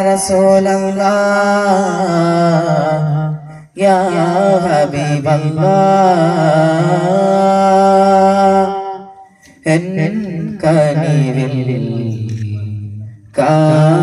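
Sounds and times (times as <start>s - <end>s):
person chanting over loudspeakers: 0.0s - 14.0s.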